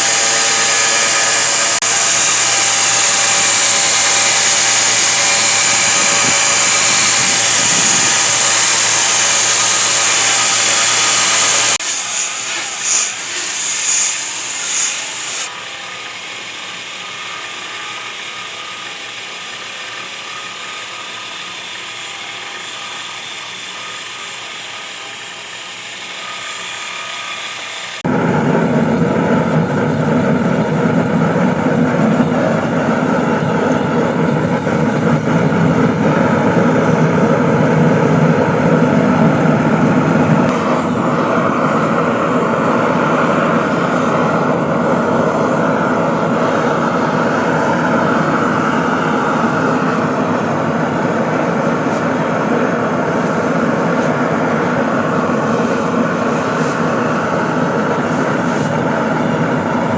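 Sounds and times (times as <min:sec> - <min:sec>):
power tools running: 0:00.0 - 0:30.0, 0:31.2 - 0:59.9.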